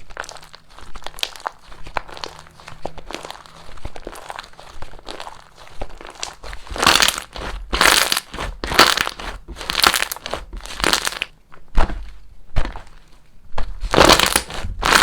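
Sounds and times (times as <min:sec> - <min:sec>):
crunchy slime crackling: 0:00.0 - 0:15.0.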